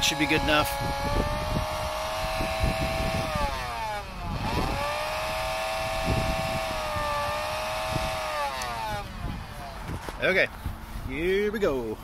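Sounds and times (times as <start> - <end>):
electric blower motor whining: 0.0 - 10.9.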